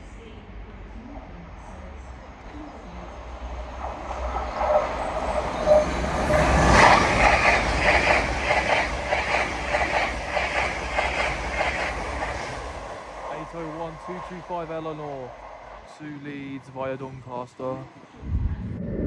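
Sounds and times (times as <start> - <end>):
high-speed train passing: 0.0 - 18.8
wheels clattering over rail: 1.0 - 18.0.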